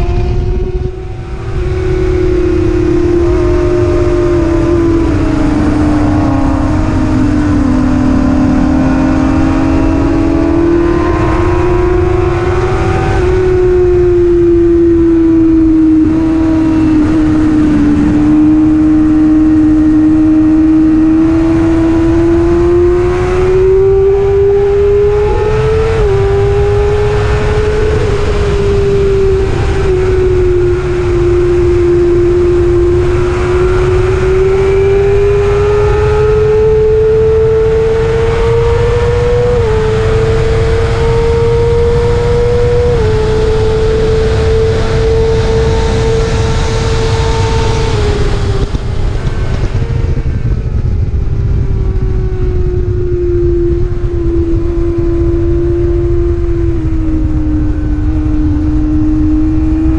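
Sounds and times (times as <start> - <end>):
motorcycle engine at high revs: 0.0 - 59.9
wind noise: 0.0 - 59.9.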